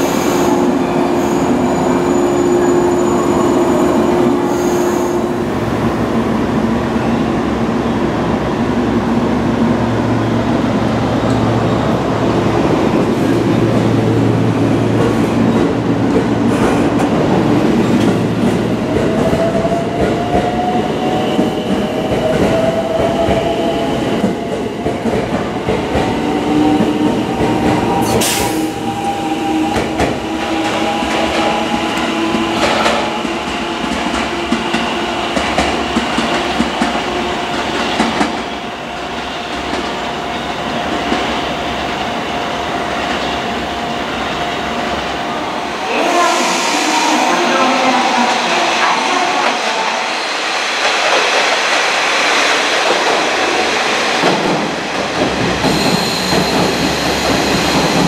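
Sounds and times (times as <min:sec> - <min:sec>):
train wheels rumbling: 0:08.8 - 0:58.0.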